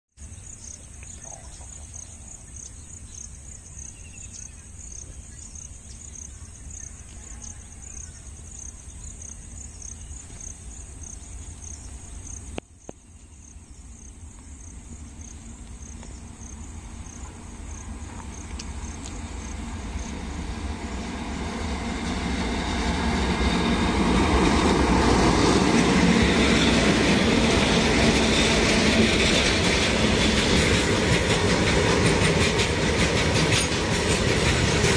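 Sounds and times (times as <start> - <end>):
freight train rumbling: 0.2 - 34.9
insects chirping: 0.2 - 34.9.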